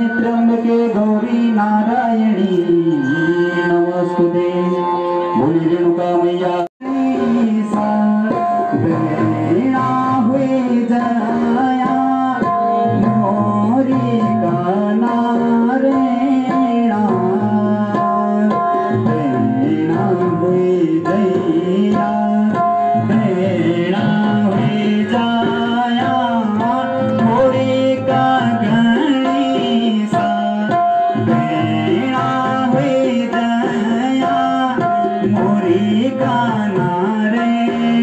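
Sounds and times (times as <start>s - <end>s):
harmonium notes: 0.0s - 38.0s
tabla rhythm: 0.0s - 38.0s.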